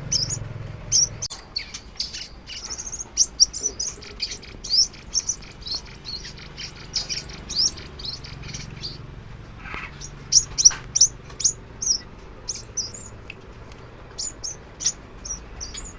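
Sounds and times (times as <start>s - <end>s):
bird chirping: 0.0s - 15.9s.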